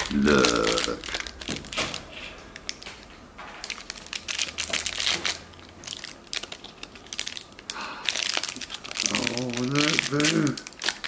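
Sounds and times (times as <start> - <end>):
plastic wrapper crackling: 0.0 - 11.0.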